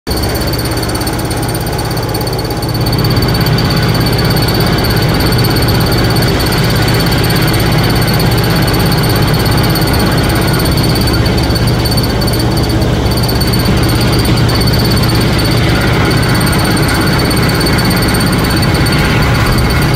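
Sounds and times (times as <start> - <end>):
high whine: 0.1 - 19.9
vibrating screen mechanical drone: 0.1 - 19.9.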